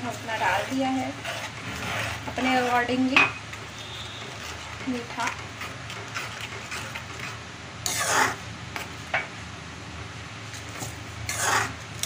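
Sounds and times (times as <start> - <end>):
spoon scraping metal pan: 0.0 - 8.9, 10.8 - 11.8
metal spoon stirring in pan: 0.0 - 9.1, 10.5 - 12.0.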